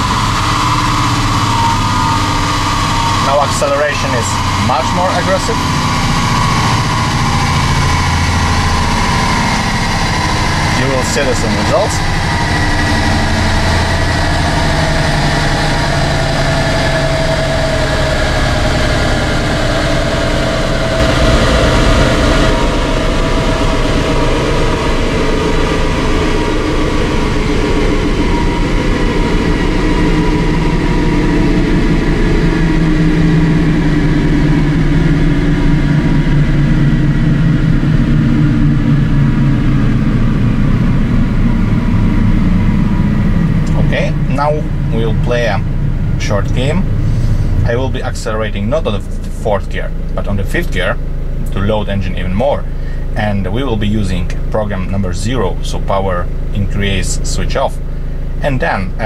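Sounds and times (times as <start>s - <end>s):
diesel engine running: 0.0s - 59.0s
dyno rollers running: 0.0s - 59.0s.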